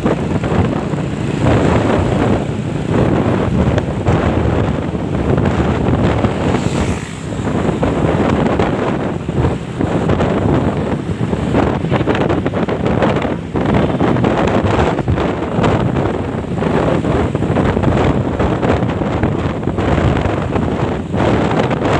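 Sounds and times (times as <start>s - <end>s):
road and traffic noise: 0.0s - 21.9s
wind buffeting microphone: 0.0s - 21.9s.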